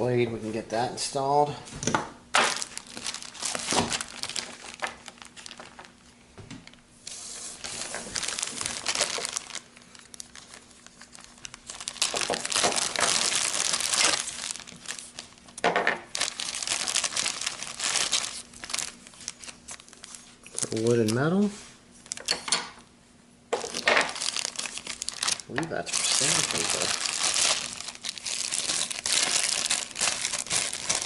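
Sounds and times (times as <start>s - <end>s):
plastic packaging crinkling and tearing: 2.3s - 22.4s, 23.6s - 31.0s.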